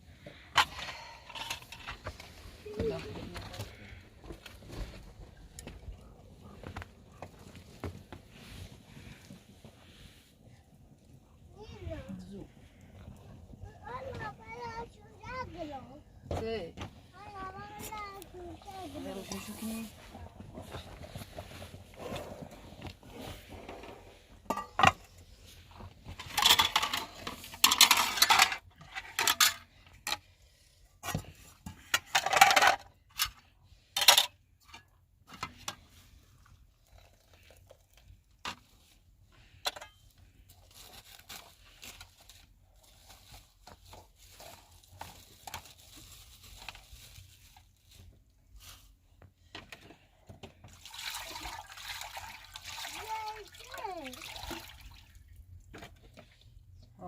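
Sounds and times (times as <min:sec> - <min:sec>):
objects clattering and knocking: 0:00.0 - 0:10.2, 0:11.2 - 0:30.4, 0:31.0 - 0:51.6, 0:55.4 - 0:56.9.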